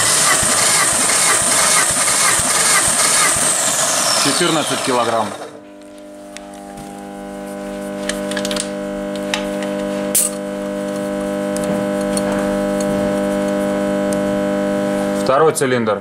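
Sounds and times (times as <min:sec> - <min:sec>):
steady multi-tone hum: 0:00.0 - 0:16.0.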